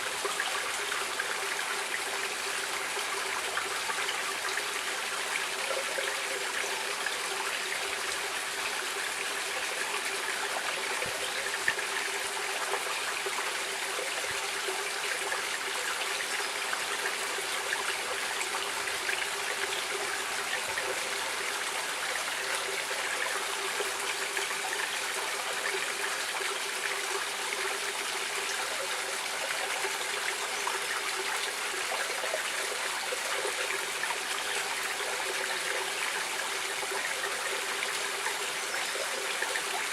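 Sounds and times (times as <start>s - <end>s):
stream of water trickling: 0.0s - 39.9s.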